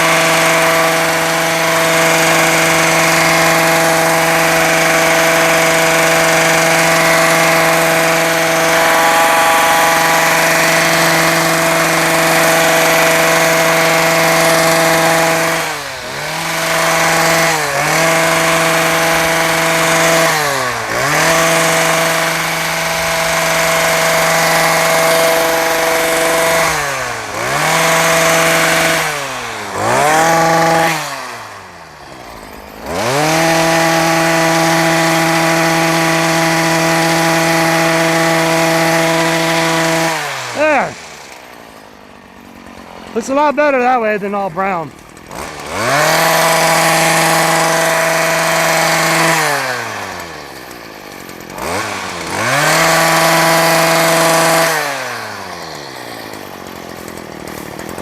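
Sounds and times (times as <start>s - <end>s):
grass trimmer engine revving: 0.0s - 58.0s.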